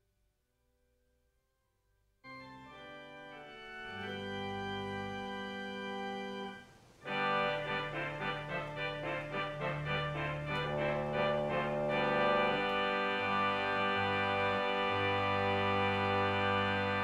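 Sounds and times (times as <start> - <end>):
organ music: 2.3 - 17.0.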